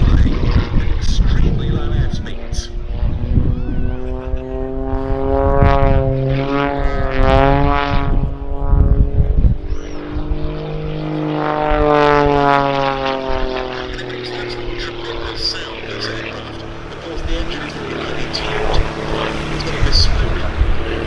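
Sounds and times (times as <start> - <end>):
propeller plane engine: 0.0 - 21.0.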